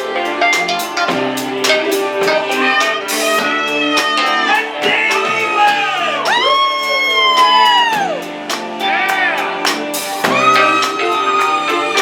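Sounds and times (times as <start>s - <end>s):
drum kit beat: 0.0s - 12.0s
guitar notes: 0.0s - 12.0s
live rock band playing: 0.0s - 12.0s.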